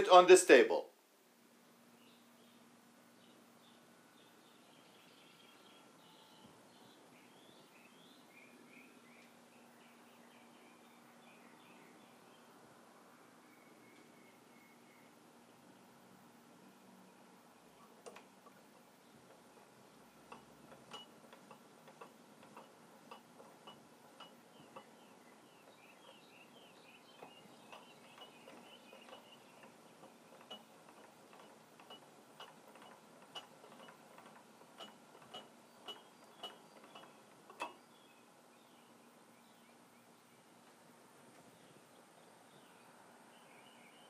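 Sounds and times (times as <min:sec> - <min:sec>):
faint high chirping: 0:01.9 - 0:40.8, 0:41.4 - 0:44.0.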